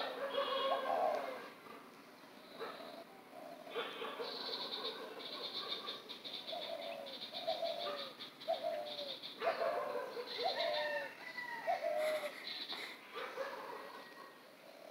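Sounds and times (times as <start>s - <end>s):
dove cooing: 0.0s - 1.8s, 2.4s - 14.9s.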